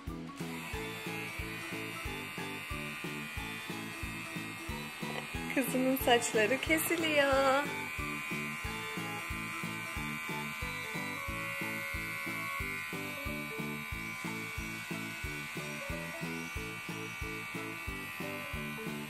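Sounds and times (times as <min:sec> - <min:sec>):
background music with quick beat: 0:00.0 - 0:19.0
electric hair clipper buzzing: 0:00.0 - 0:19.0.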